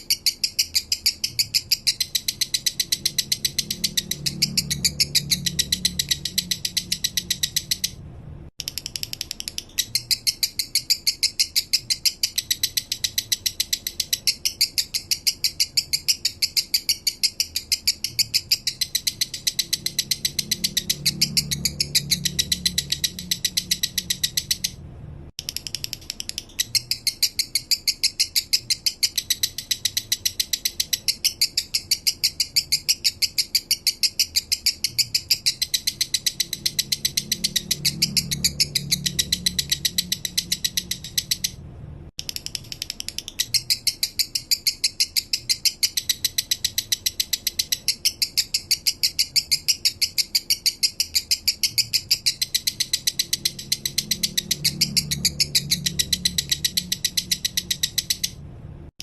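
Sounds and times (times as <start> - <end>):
lovebird singing sharp chirps: 0.0 - 8.0, 8.6 - 24.8, 25.4 - 41.6, 42.2 - 58.4.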